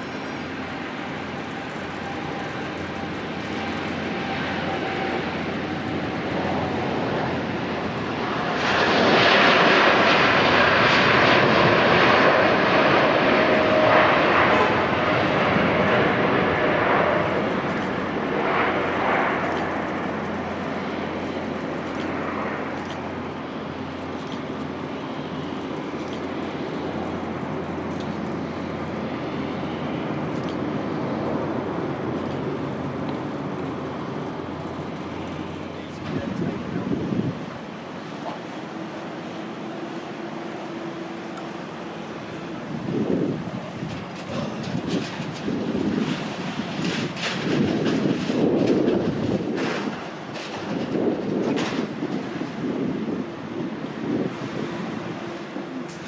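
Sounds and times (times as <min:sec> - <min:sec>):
airliner engines: 0:00.0 - 0:56.0.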